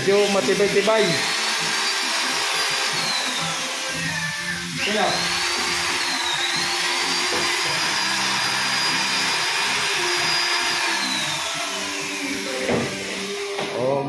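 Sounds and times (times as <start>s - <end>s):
power tool motor whining: 0.0s - 14.0s.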